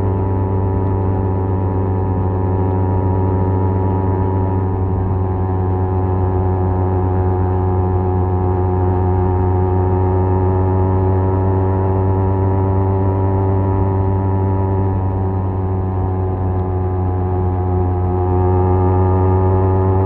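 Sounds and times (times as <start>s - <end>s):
motorcycle exhaust drone: 0.0s - 20.0s.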